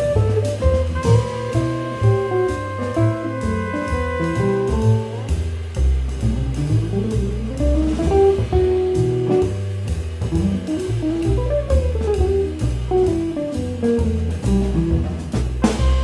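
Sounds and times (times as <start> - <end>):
drum kit cymbals: 0.0 - 16.0
walking double bass: 0.0 - 16.0.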